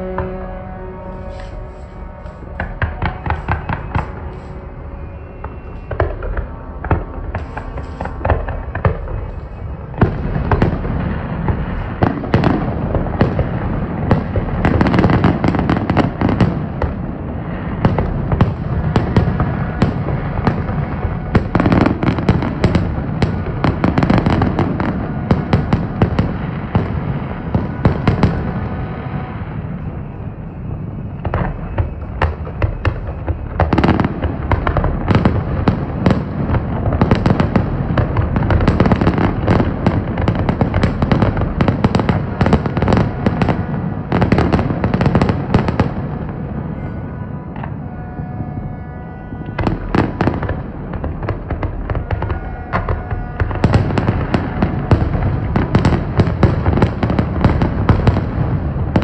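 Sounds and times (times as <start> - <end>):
constant low rumble: 0.0 - 59.0
firework bangs and crackles: 0.0 - 59.0.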